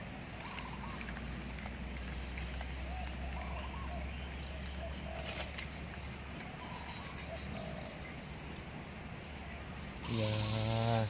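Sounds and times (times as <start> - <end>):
low steady rumble: 0.0 - 10.6
birds chirping: 0.0 - 11.0.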